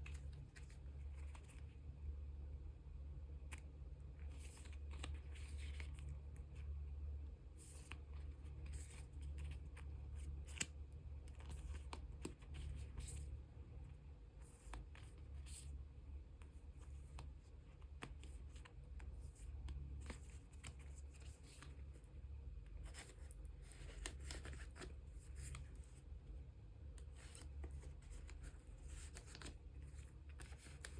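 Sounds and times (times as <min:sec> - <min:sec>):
cards scraping and clicking: 0:00.0 - 0:01.7, 0:03.4 - 0:06.6, 0:07.6 - 0:13.3, 0:14.3 - 0:15.8, 0:16.4 - 0:26.1, 0:26.9 - 0:30.9.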